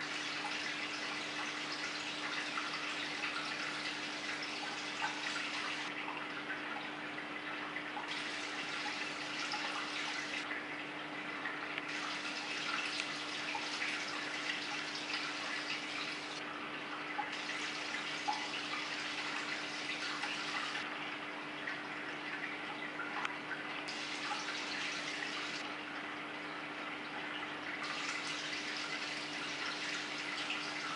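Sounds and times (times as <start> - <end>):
water trickling and splashing: 0.0 - 30.9.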